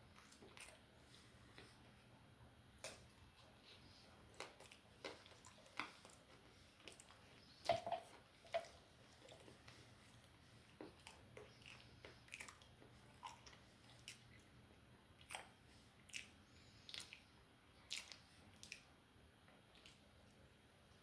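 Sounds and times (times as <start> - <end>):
chewing food: 0.0 - 2.1, 2.8 - 21.0.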